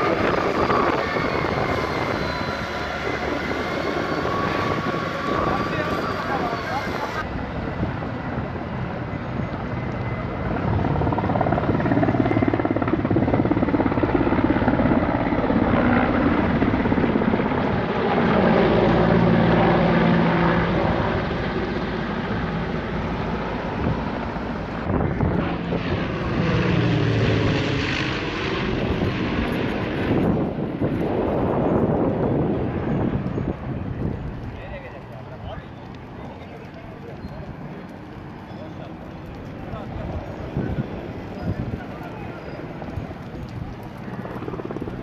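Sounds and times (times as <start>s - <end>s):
helicopter flying over: 0.0s - 45.0s.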